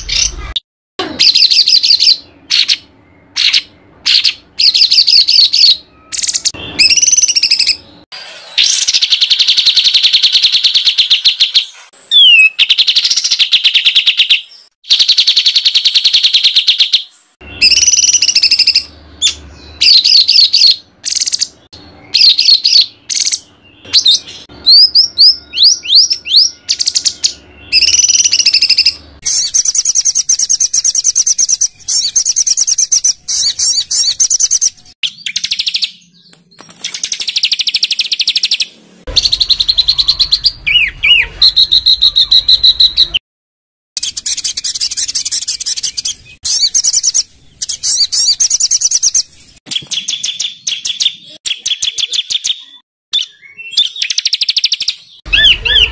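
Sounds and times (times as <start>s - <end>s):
songbird trills and whistles: 1.2s - 43.2s, 44.0s - 55.9s.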